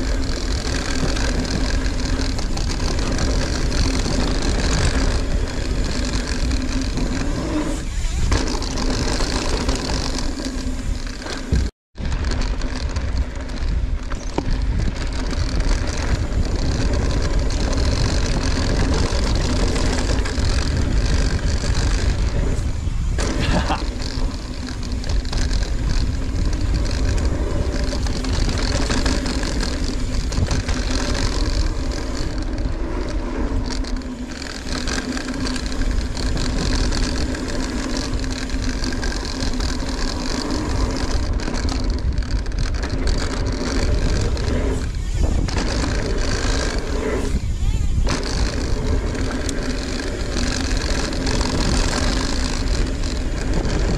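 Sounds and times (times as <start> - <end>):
tyres rumbling on dirt: 0.0 - 53.9
wind rush: 0.0 - 53.9.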